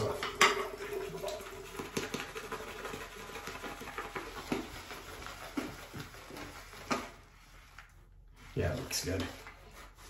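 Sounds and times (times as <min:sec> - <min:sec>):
brush whipping soap lather: 0:00.8 - 0:10.0.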